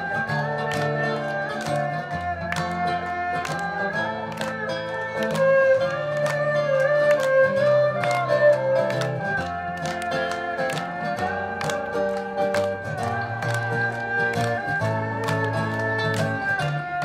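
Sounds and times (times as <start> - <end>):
audience clapping along: 0.0 - 17.0
guitars strumming: 0.0 - 17.0.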